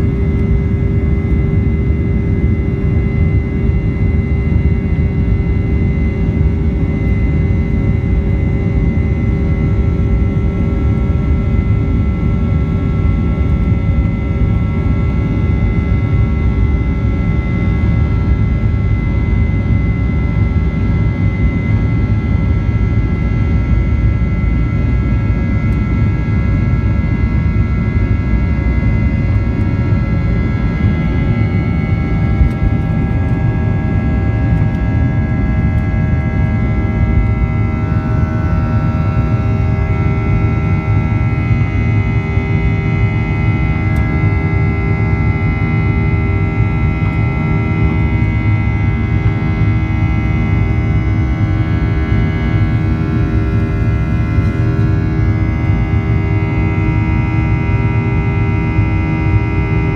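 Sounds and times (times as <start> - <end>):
jet engine rumble in cabin: 0.0 - 59.9
jet engine whining tones: 0.0 - 59.9.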